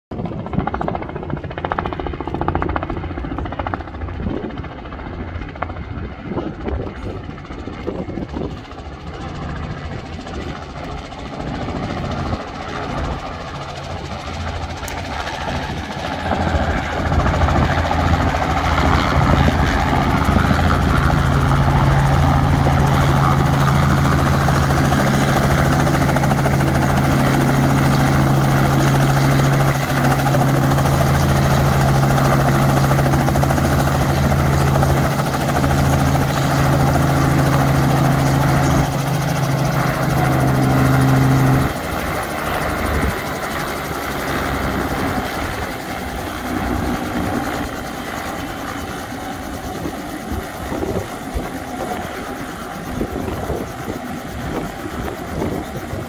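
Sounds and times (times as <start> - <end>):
helicopter rotor and engine: 0.1 - 56.0.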